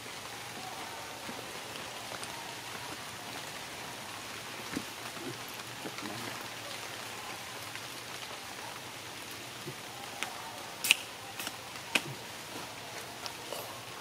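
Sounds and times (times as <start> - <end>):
rain pattering on foliage: 0.0 - 14.0.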